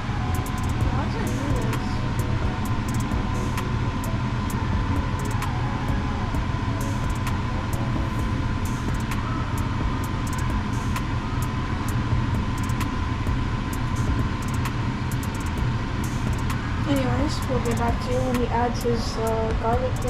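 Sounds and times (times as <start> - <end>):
fan or motor rumble: 0.0 - 20.0.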